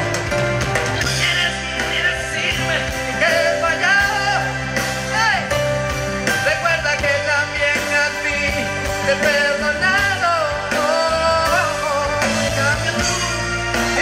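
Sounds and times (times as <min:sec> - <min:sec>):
keyboard-led band accompaniment: 0:00.0 - 0:14.0
man singing: 0:01.0 - 0:14.0.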